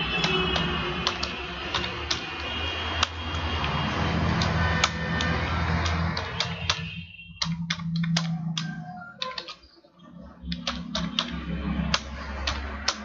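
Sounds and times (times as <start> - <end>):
laptop keyboard keys clicking: 0.0 - 9.7, 10.4 - 13.0.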